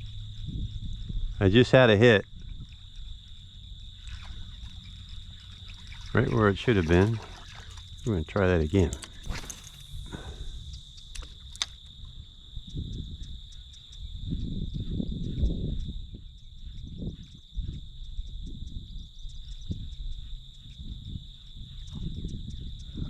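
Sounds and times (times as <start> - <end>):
insect trill: 0.0 - 23.0.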